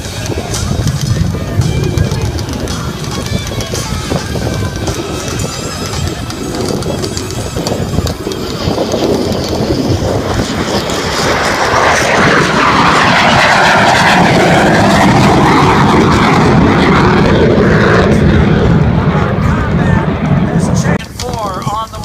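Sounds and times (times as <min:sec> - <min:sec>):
military aircraft flying past: 0:00.0 - 0:22.0.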